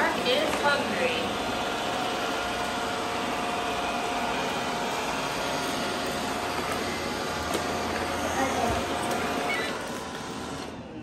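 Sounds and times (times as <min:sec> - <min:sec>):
robot vacuums whirring: 0:00.0 - 0:10.9.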